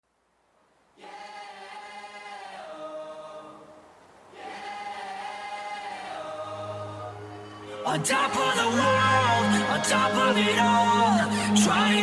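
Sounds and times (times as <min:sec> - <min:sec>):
wordless choir voices: 0:01.0 - 0:12.0.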